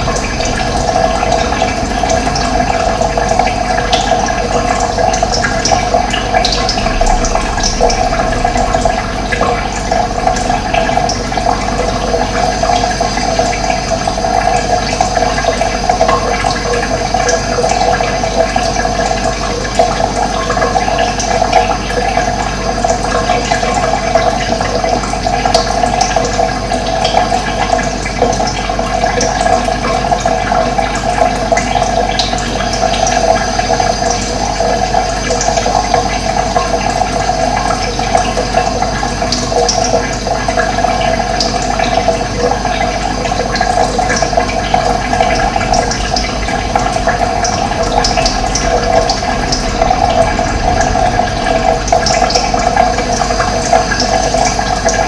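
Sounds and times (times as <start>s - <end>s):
running water gurgling: 0.0s - 55.0s.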